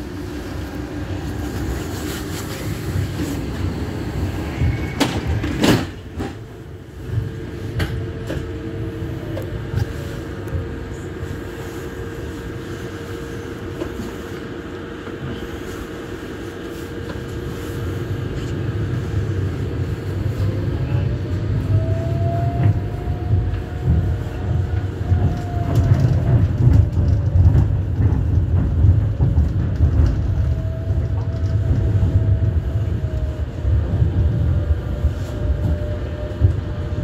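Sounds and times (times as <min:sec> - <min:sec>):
tram motor whine: 0:00.0 - 0:37.0
tram rumble and hum: 0:00.0 - 0:37.0.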